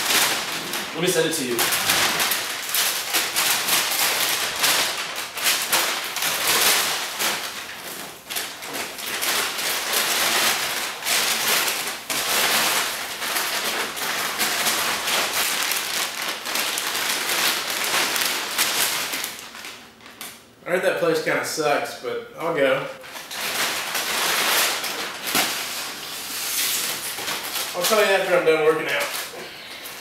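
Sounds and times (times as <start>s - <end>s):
paper map crinkling and rustling: 0.0s - 20.4s, 23.0s - 30.0s.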